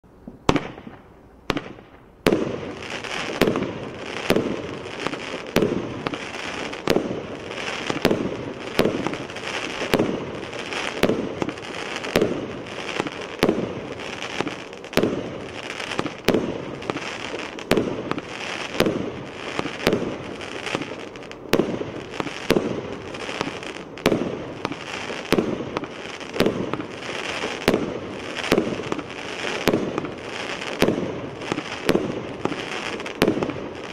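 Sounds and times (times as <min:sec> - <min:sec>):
fireworks bangs: 0:00.2 - 0:33.9.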